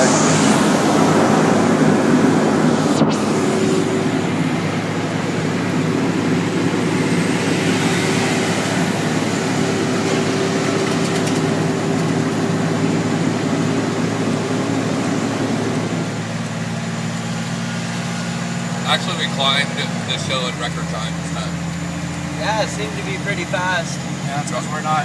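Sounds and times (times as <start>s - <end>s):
engine high whine: 0.0s - 25.0s
truck diesel engine droning: 0.0s - 25.0s.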